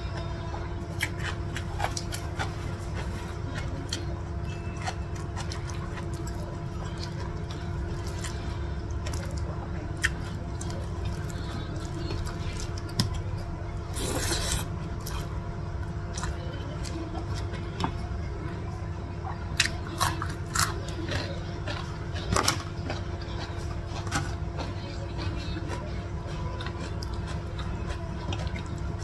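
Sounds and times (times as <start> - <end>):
steady low hum: 0.0 - 29.0
close-up chewing: 0.9 - 15.3, 19.2 - 29.0.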